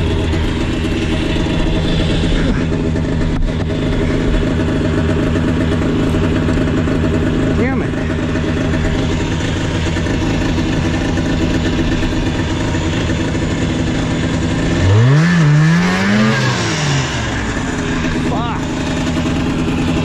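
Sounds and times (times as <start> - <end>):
snowmobile engine idling and revving: 0.0 - 20.0.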